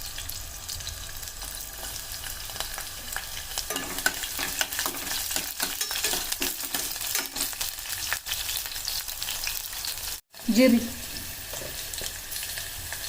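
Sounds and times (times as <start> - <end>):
chillies and garlic sizzling in oil: 0.0 - 13.0.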